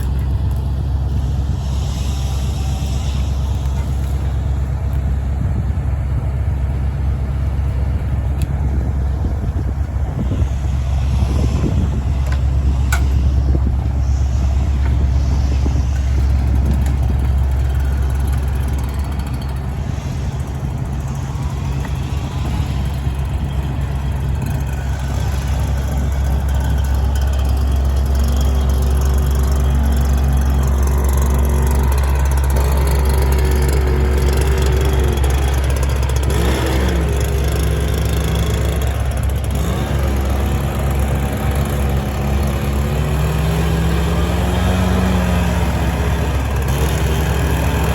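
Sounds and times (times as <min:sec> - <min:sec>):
heavy engine running: 0:00.0 - 0:47.9
wavering whine: 0:00.0 - 0:47.9.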